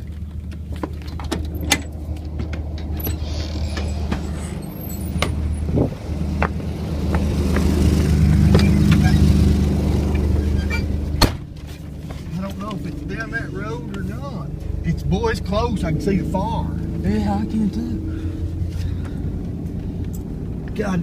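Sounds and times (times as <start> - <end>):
car engine and road drone: 0.0 - 21.0.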